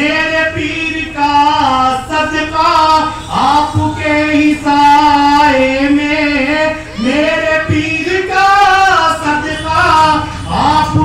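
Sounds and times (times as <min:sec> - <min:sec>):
person singing devotional song: 0:00.0 - 0:11.0.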